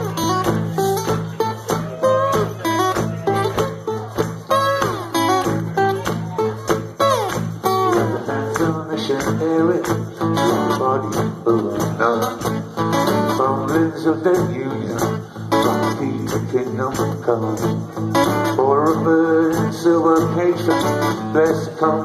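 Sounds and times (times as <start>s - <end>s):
person singing: 0.0s - 22.0s
strummed acoustic guitar: 0.0s - 22.0s.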